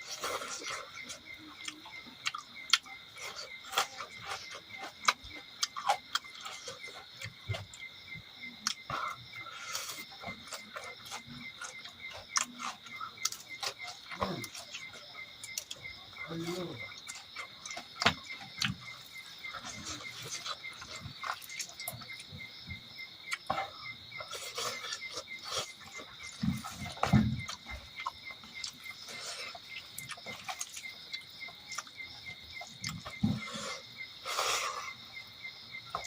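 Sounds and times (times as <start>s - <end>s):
chewing and mouth smacks: 0.0s - 35.0s
insects chirring: 0.0s - 36.0s.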